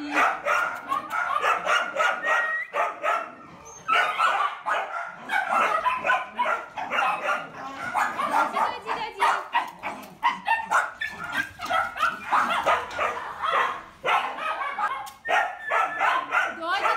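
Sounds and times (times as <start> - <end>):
dogs barking: 0.0 - 16.9.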